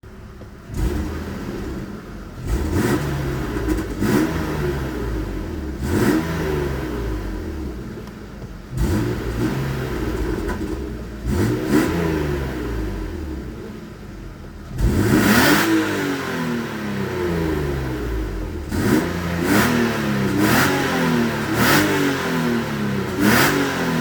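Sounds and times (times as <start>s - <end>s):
car engine revving: 0.4s - 24.0s.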